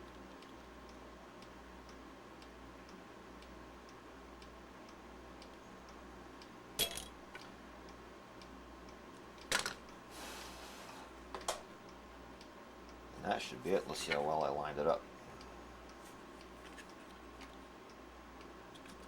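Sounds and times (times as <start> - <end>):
faint steady ticking: 0.0 - 10.2, 11.1 - 19.0.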